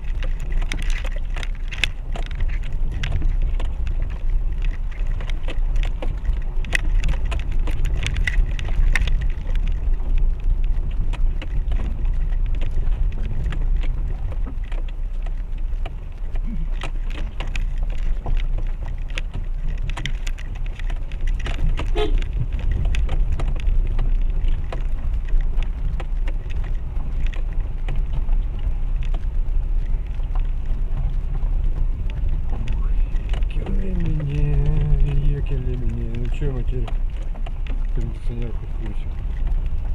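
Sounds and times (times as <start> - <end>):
engine and tyres rumbling: 0.0 - 39.9
stones and suspension rattling: 0.0 - 39.9.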